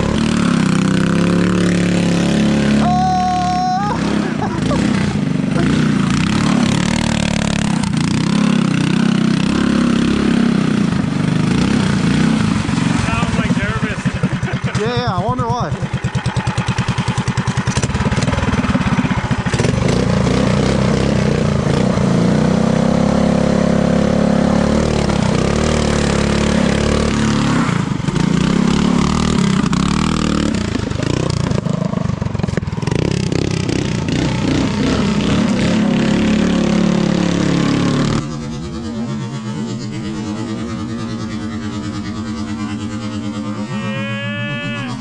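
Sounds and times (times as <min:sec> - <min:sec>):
small gas engine revving: 0:00.0 - 0:45.0.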